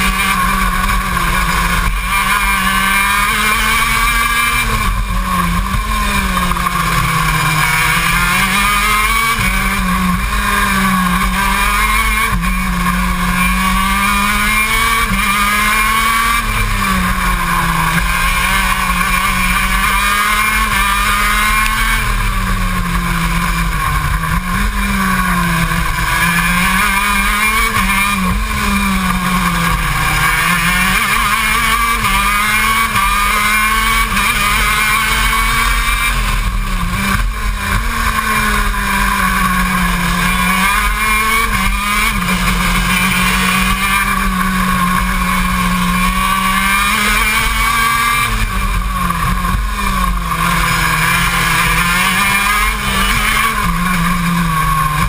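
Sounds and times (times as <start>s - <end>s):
kart two-stroke engine racing: 0.0s - 55.0s.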